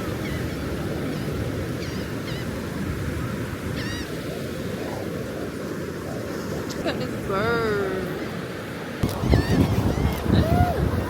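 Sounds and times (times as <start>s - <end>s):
surf rumbling: 0.0s - 11.0s
wind: 0.0s - 11.0s.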